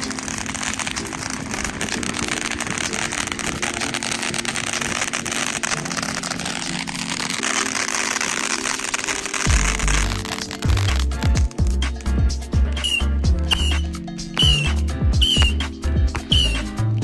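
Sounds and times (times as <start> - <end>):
firecrackers crackling: 0.0 - 17.0.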